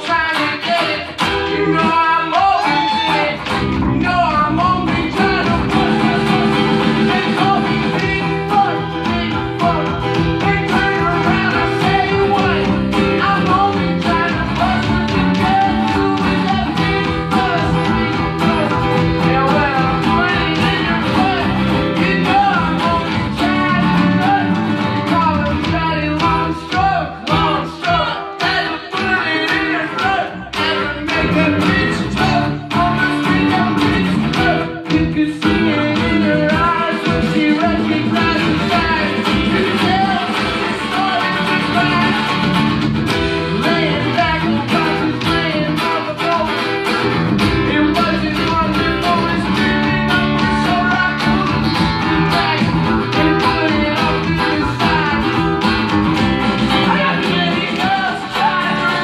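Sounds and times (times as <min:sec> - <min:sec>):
bass: 0:00.0 - 0:59.0
man singing: 0:00.0 - 0:59.0
strummed guitar: 0:00.0 - 0:59.0.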